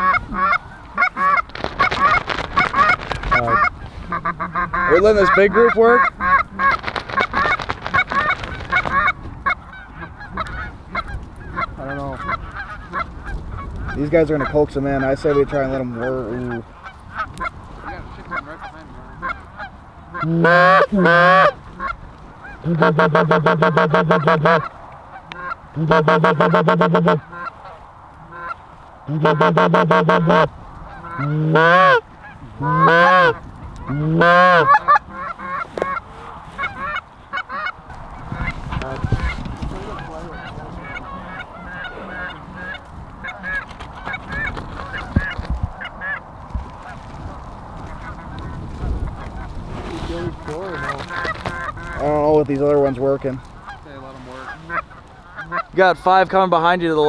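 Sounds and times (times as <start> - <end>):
goose call honks and clucks: 0.0 - 56.7
geese honking: 0.0 - 57.0
low wind rumble: 0.0 - 57.0.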